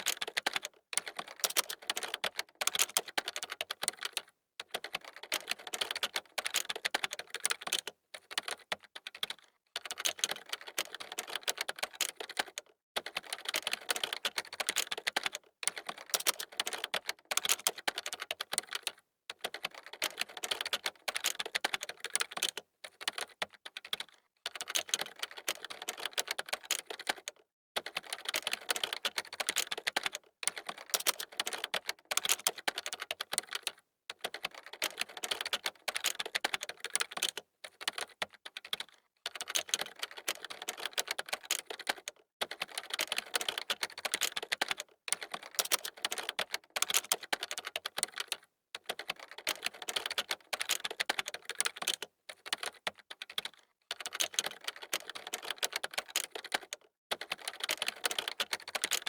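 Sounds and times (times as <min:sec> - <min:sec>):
fast typing on keyboard: 0:00.0 - 0:59.0.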